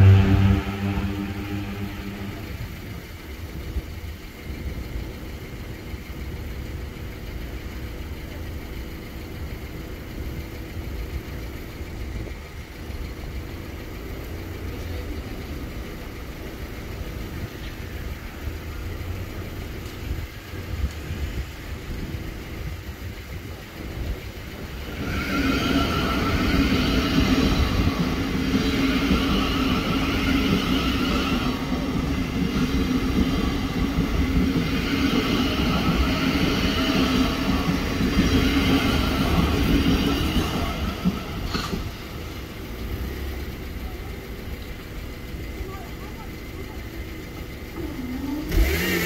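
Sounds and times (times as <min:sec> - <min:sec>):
traffic engines idling: 0:00.0 - 0:49.0
vehicle engine whining: 0:00.0 - 0:49.0.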